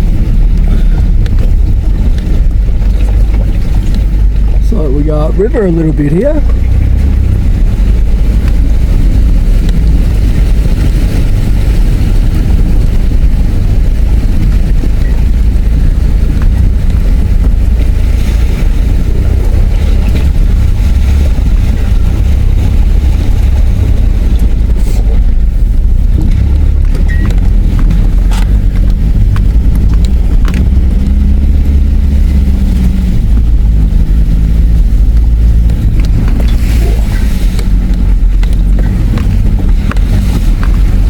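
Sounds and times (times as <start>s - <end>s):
vehicle engine rumble: 0.0s - 41.0s
water washing around wheels: 0.0s - 41.0s.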